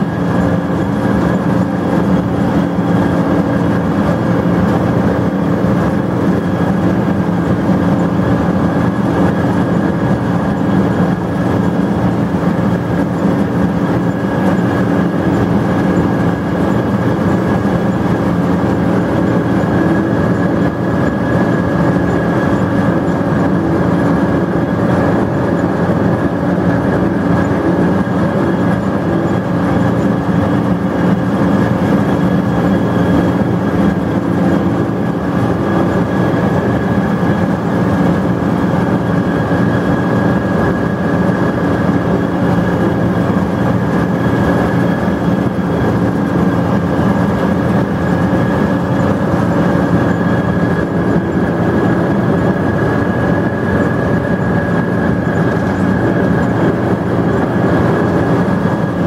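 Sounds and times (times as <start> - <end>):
harvester engine drone: 0.0 - 59.0.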